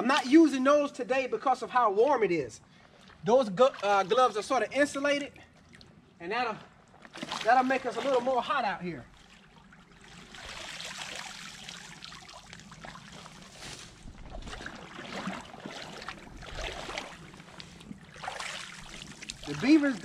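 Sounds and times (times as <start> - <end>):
creek water splashing: 2.7 - 20.0.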